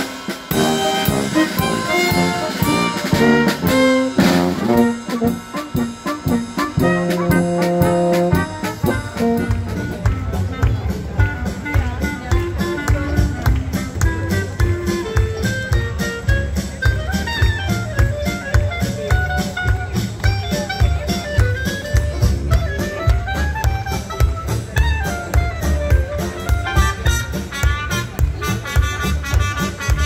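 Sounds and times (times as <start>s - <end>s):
upbeat jazzy music: 0.0s - 30.0s.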